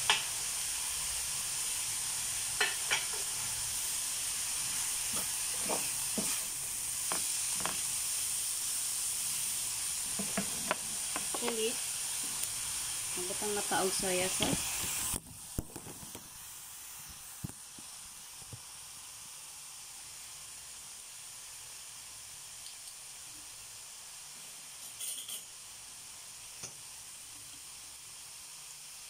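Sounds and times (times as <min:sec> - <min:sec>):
vegetables sizzling in a frying pan: 0:00.0 - 0:29.0.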